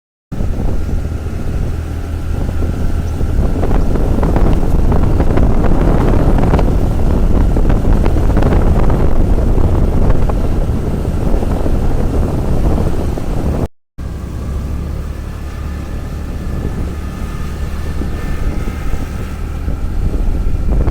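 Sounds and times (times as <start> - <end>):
scooter engine running: 0.3 - 20.9
wind rushing over microphone: 0.3 - 20.9.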